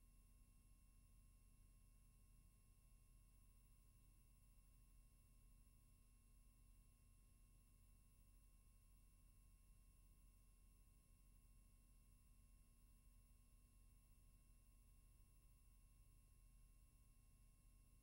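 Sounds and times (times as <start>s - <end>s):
faint steady hum and hiss: 0.0s - 18.0s.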